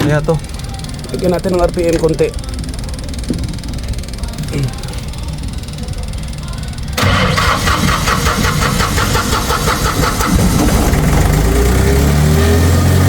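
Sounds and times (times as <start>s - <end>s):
diesel engine cranking and running: 0.0s - 13.0s.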